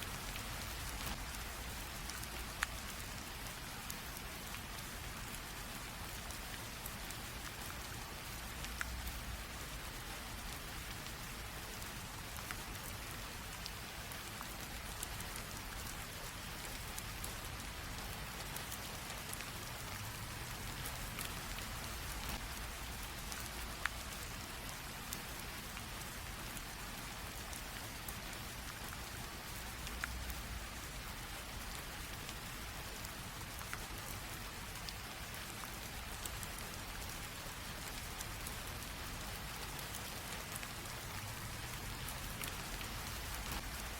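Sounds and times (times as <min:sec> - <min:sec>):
light rain hissing: 0:00.0 - 0:43.9
raindrops ticking on a surface: 0:00.0 - 0:43.9.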